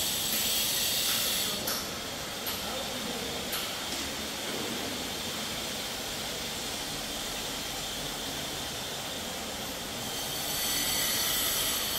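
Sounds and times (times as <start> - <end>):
steady rushing hiss: 0.0 - 11.9.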